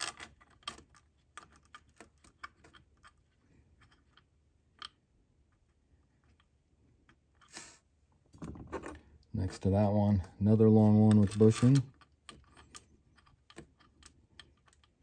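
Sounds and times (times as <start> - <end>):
small metallic clicks: 0.0 - 7.5, 10.1 - 15.0.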